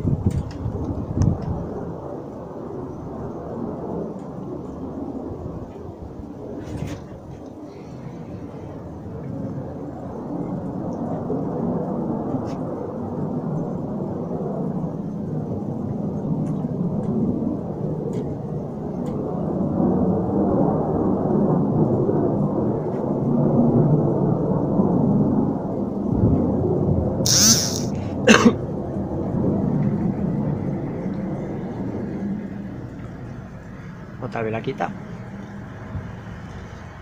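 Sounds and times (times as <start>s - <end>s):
distant aircraft engine drone: 0.0s - 37.0s.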